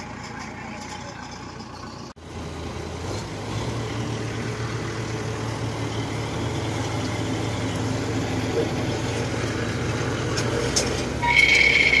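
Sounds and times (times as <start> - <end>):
combine harvester diesel engine: 0.0 - 12.0.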